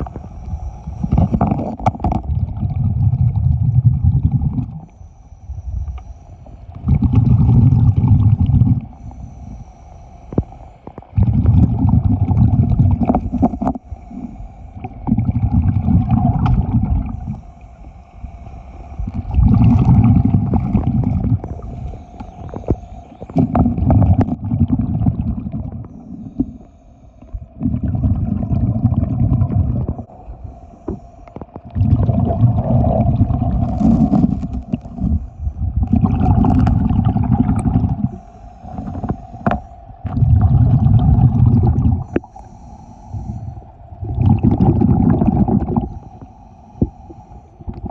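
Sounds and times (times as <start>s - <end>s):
exhaled bubbles underwater: 0.0s - 9.6s, 10.3s - 17.5s, 18.9s - 47.9s
steady mechanical hum: 0.0s - 47.9s.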